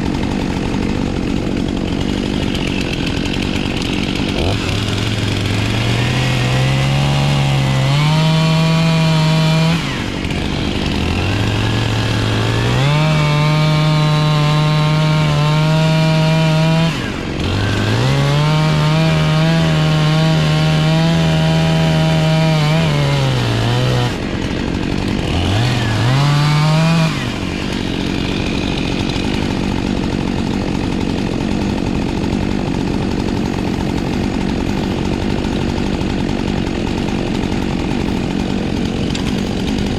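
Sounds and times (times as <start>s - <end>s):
chainsaw revving and cutting log: 0.0s - 39.9s.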